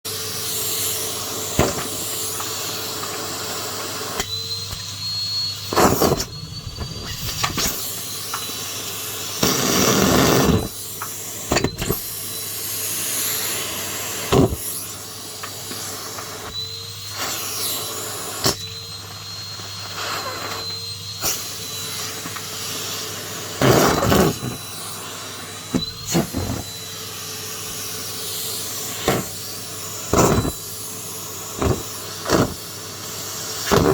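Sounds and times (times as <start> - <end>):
vacuum cleaner whining: 0.1 - 33.9.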